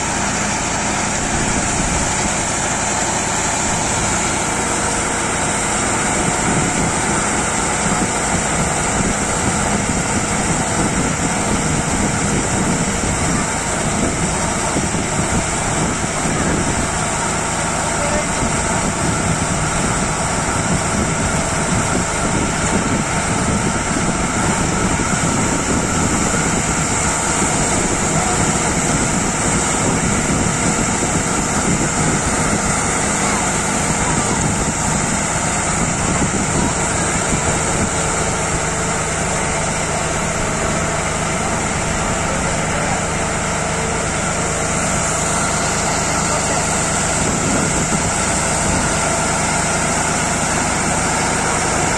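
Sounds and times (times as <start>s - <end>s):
tractor engine and machinery drone: 0.0s - 51.9s.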